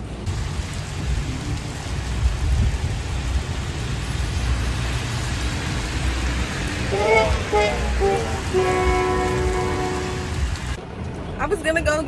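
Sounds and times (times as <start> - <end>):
heavy rain on pavement and cars: 0.0 - 10.8.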